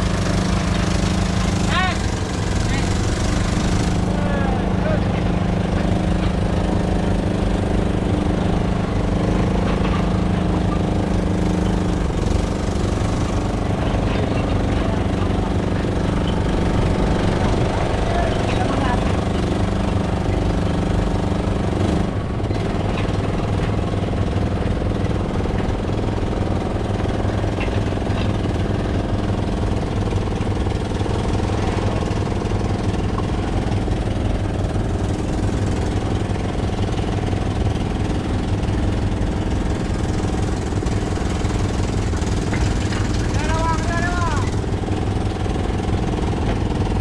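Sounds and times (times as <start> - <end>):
boat engine knocking: 0.0 - 47.0.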